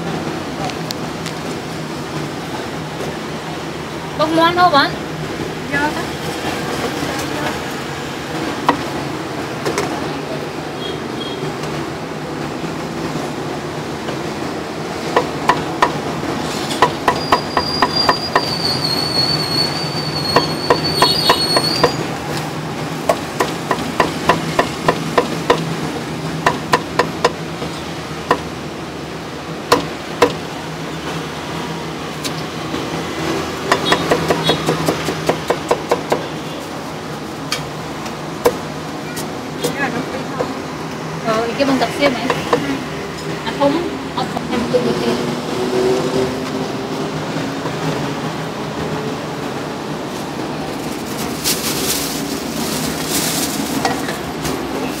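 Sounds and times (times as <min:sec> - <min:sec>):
street background noise: 0:00.0 - 0:55.0.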